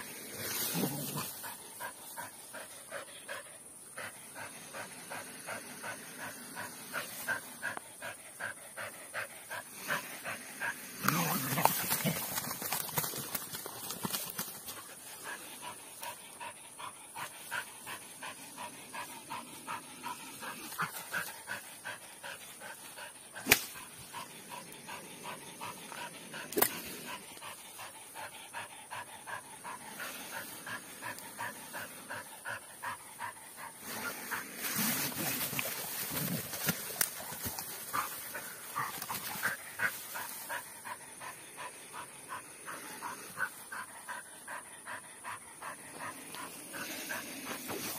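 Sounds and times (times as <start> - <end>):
dog panting: 1.1 - 10.9, 11.6 - 34.4, 35.2 - 47.9.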